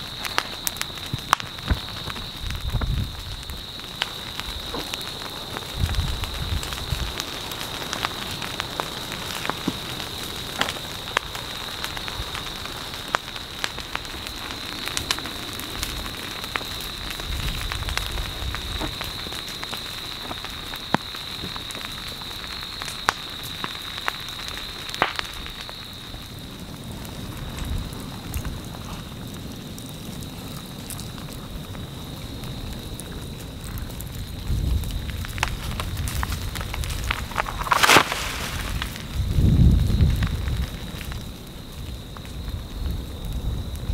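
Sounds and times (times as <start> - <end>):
brush fire crackling: 0.0 - 43.9.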